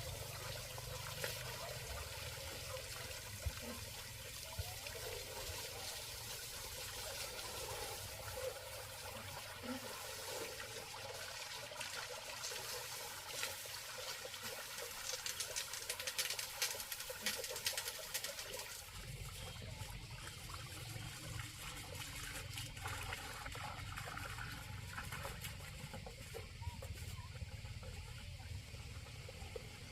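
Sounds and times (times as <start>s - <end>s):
faint trickling water: 0.0s - 29.9s.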